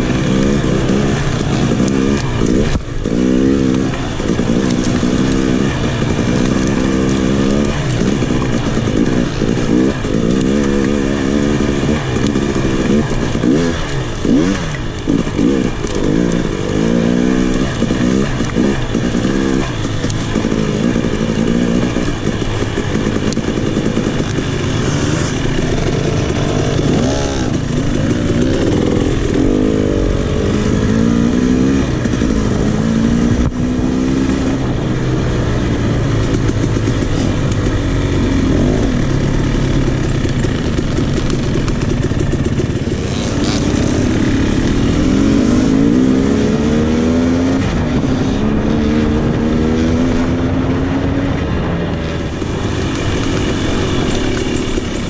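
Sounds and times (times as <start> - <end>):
two-stroke dirt bike engine revving: 0.0 - 55.0.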